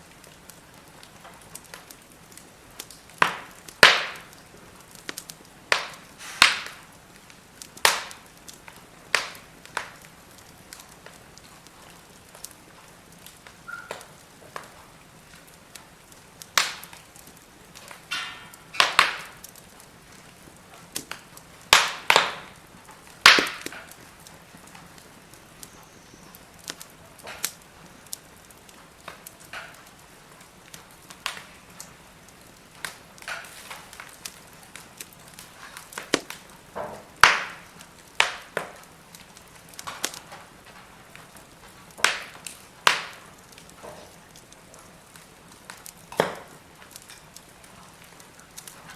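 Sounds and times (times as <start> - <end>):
fire low hiss: 0.0 - 48.9
firewood crackling and popping: 0.0 - 48.9.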